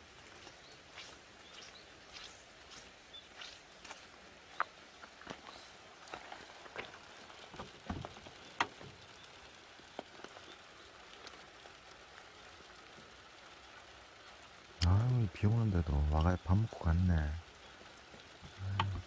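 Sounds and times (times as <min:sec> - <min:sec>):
rain pattering: 0:00.0 - 0:19.0
raindrops ticking on surfaces: 0:00.0 - 0:19.0.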